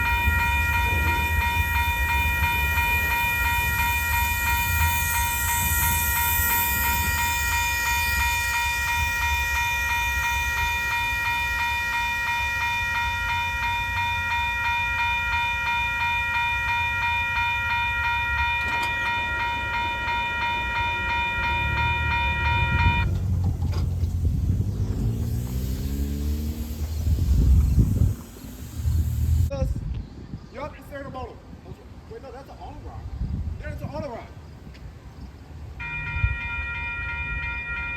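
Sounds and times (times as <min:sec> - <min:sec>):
crossing warning bell ringing: 0:00.0 - 0:29.5, 0:35.8 - 0:37.9
train rumbling past: 0:00.0 - 0:29.6, 0:34.9 - 0:37.9.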